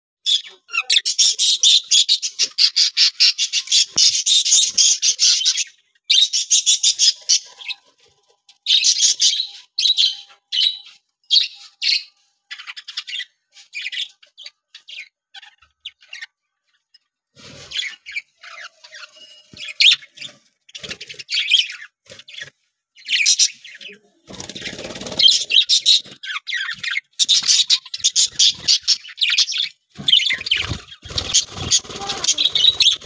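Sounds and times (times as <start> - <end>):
budgerigars chirping: 0.3 - 8.0, 8.6 - 16.9, 17.6 - 33.0.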